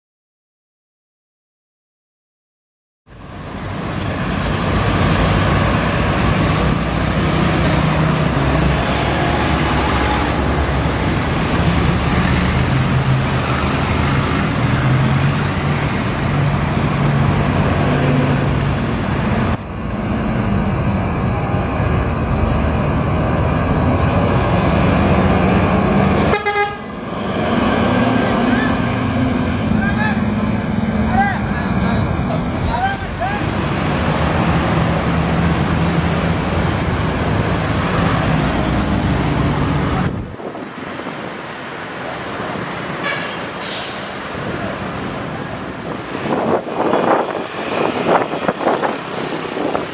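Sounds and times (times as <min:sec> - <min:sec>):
road and wind noise: 0:03.1 - 0:49.9.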